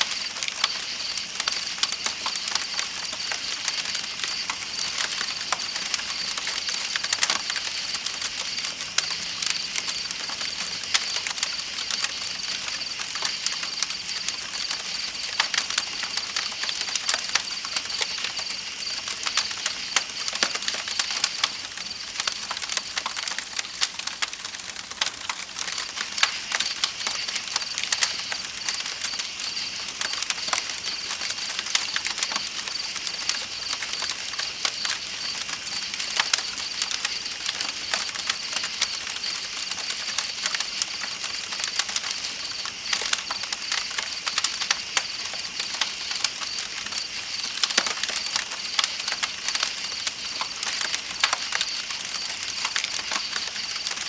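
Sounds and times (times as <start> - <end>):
campfire crackling and popping: 0.0 - 54.0
night insects trilling: 0.0 - 54.0.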